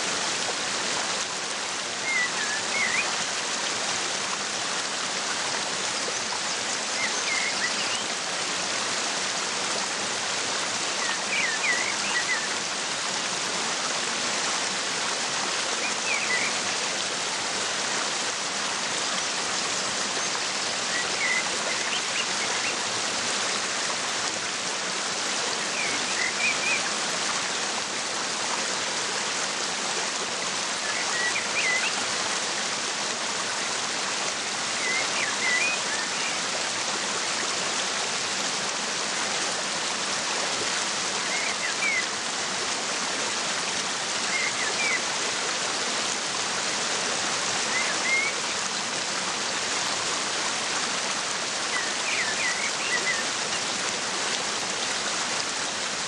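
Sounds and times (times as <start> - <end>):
waterfall: 0.0 - 56.0.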